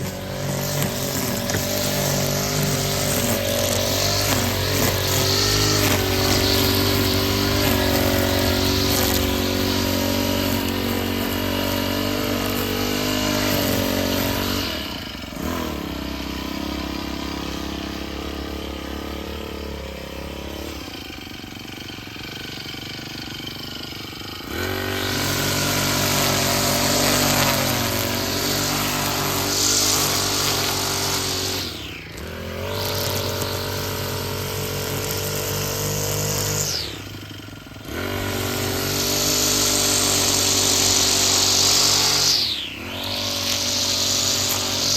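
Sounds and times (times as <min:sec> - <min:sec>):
small petrol engine running: 0:00.0 - 0:44.9.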